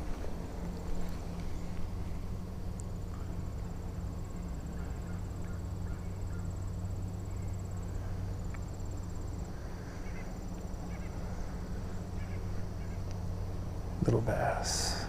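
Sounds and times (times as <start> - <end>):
insect trill: 0.0 - 15.0
low hum: 0.0 - 15.0.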